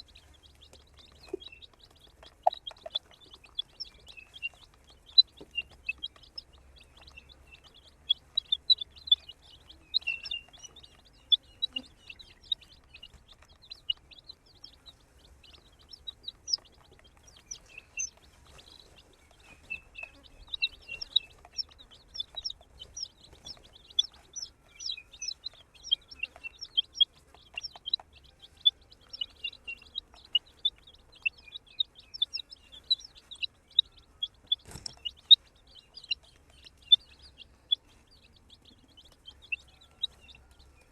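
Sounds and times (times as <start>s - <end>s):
baby chicks peeping: 0.0s - 40.9s.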